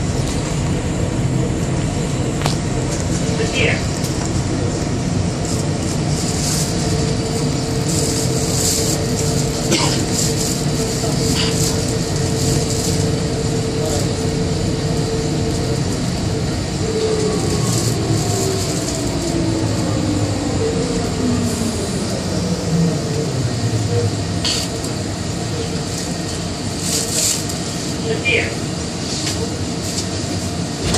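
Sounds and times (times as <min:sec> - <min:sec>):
train rolling noise: 0:00.0 - 0:30.9.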